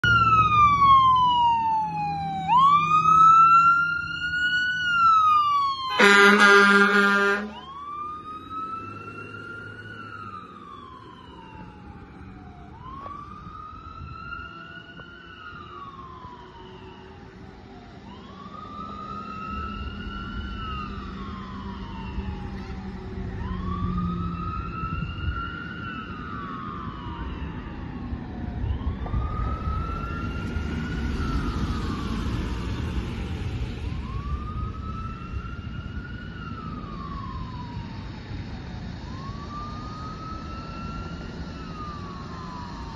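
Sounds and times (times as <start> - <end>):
fire engine siren wailing: 0.0 - 42.9.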